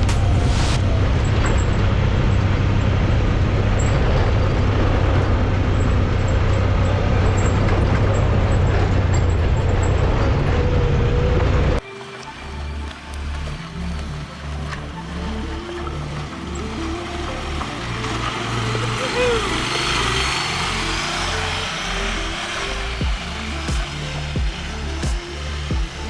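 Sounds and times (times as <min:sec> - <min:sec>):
utility vehicle engine running: 0:00.0 - 0:26.0
wind and ride noise: 0:00.0 - 0:26.0.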